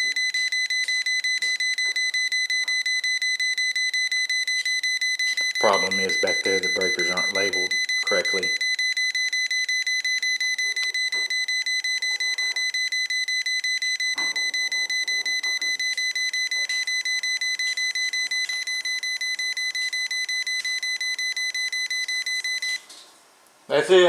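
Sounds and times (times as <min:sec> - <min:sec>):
voltage tester beeping: 0:00.0 - 0:22.8.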